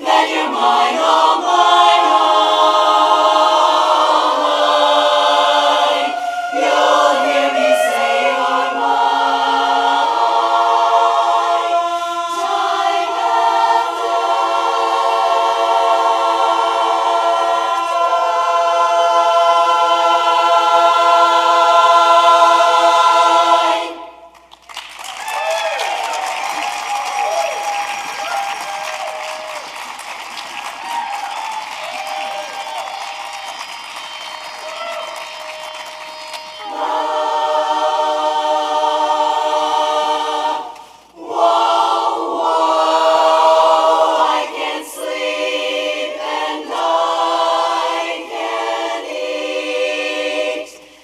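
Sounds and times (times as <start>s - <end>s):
women's chorus singing a cappella: 0.0s - 24.4s, 34.0s - 51.0s.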